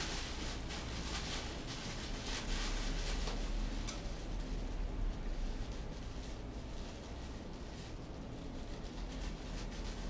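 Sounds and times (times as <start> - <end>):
low steady hum: 0.0 - 10.0
plastic bag rustling and crinkling: 0.0 - 10.0.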